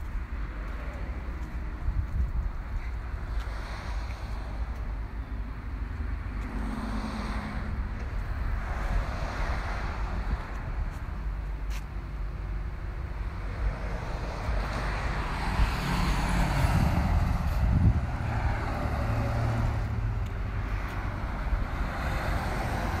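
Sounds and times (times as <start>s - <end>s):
cars passing: 0.0s - 23.0s
steady low traffic rumble: 0.0s - 23.0s.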